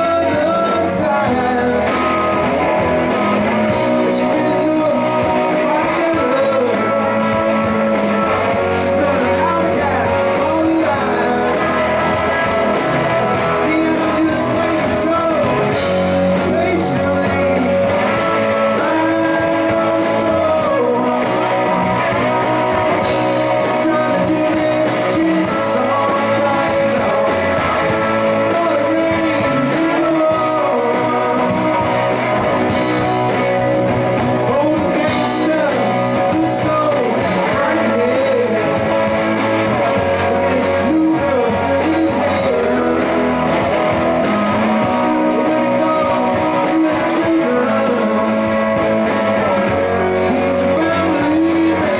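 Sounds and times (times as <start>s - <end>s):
electric and acoustic guitars: 0.0s - 51.9s
man singing lead: 0.0s - 51.9s.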